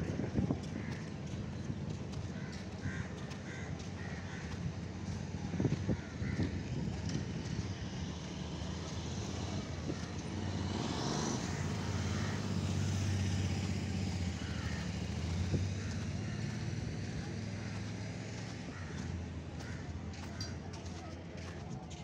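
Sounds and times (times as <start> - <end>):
passing road noise: 0.0 - 22.0
vehicle engine humming: 0.0 - 22.0.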